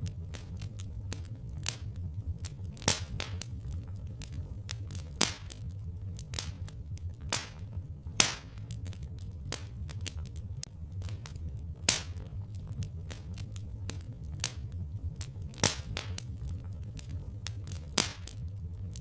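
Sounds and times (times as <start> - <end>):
log fire crackling: 0.0 - 19.0
low rumble: 0.0 - 19.0.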